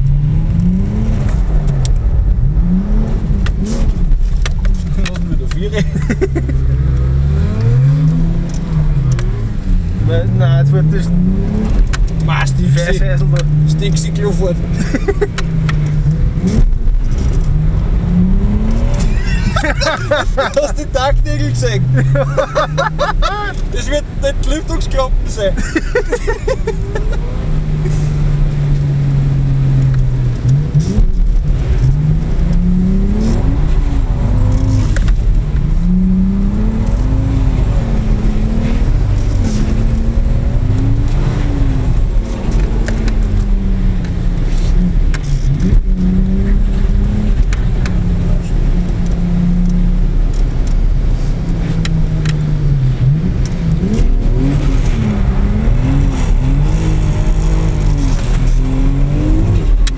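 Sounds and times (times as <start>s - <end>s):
car engine revving: 0.0s - 59.9s
low road rumble: 0.0s - 59.9s.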